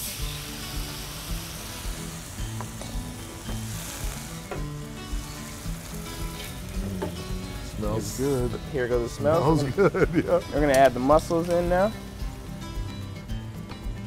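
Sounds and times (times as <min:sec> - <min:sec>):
wine sizzling in hot pan: 0:00.0 - 0:14.0.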